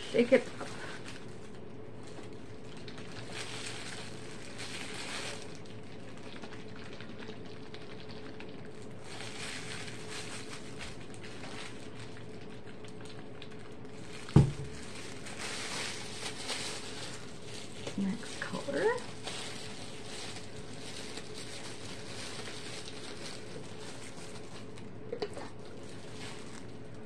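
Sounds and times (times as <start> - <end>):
squeeze bottle shaken sloshing: 0.3 - 27.0.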